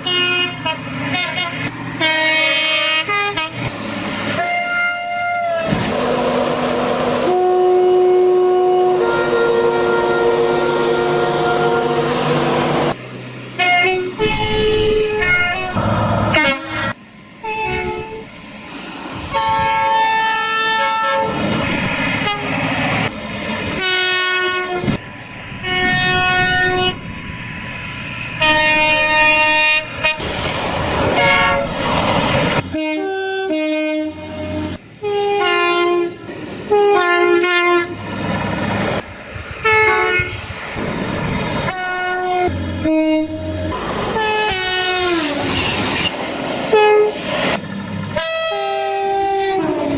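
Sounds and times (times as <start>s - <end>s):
two-tone train horns: 0.0s - 13.0s, 13.6s - 18.4s, 19.2s - 23.1s, 23.8s - 30.4s, 31.0s - 31.8s, 32.6s - 38.0s, 39.6s - 40.5s, 41.6s - 46.1s, 46.7s - 47.2s, 48.2s - 49.9s
trains rumbling on rails: 0.0s - 49.9s.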